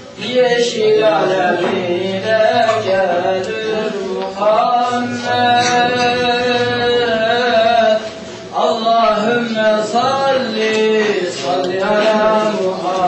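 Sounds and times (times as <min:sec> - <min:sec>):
man singing ornamented melody: 0:00.1 - 0:13.0.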